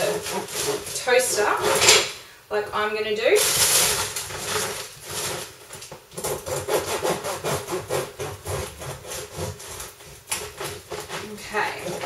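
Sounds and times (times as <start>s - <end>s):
knife sawing through bread: 0.0s - 2.0s, 3.5s - 5.6s, 6.2s - 12.0s.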